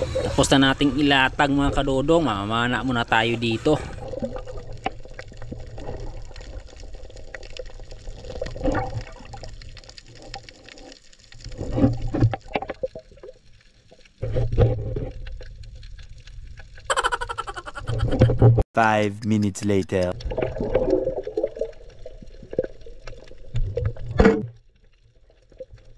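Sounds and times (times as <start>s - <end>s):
underwater water rushing and bubbling: 0.0s - 18.6s, 20.1s - 25.9s.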